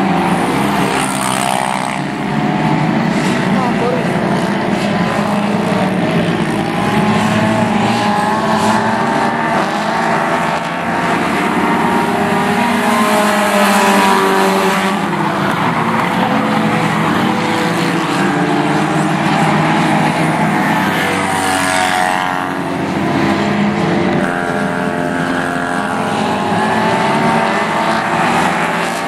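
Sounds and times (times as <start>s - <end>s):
race cars passing: 0.0s - 29.0s.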